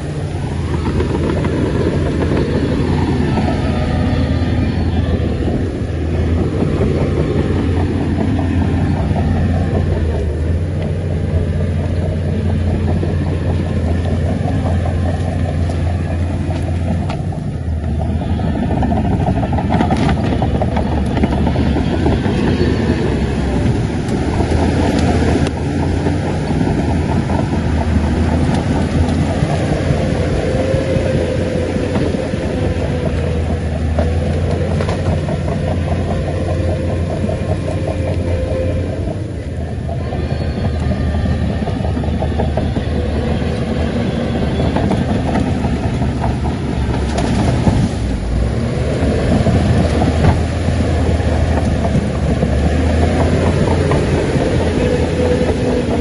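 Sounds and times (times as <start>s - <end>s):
bulldozer diesel engine: 0.0s - 56.0s
steel tracks clanking: 0.0s - 56.0s.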